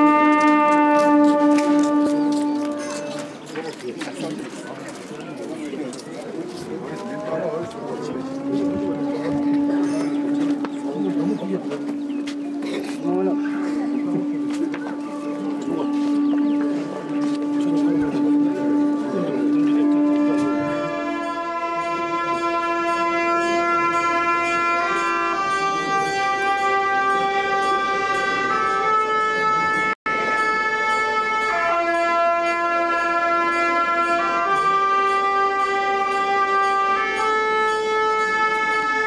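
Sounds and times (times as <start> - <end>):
shawm playing slow melody: 0.0 - 39.0.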